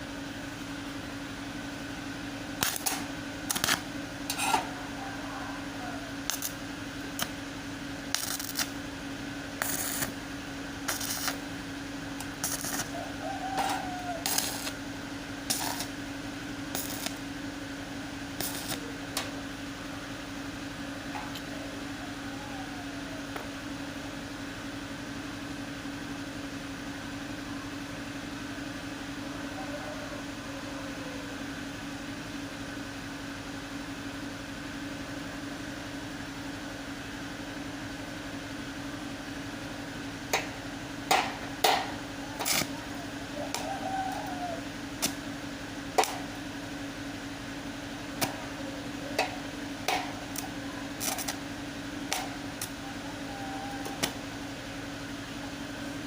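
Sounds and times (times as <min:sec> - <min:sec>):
machine hum: 0:00.0 - 0:56.0.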